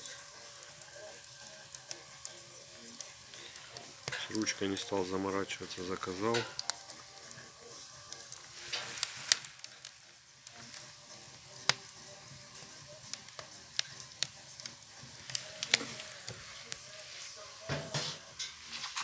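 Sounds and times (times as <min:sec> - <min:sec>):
faint steady hiss: 0:00.0 - 0:19.0
wood fire crackling: 0:00.0 - 0:19.0.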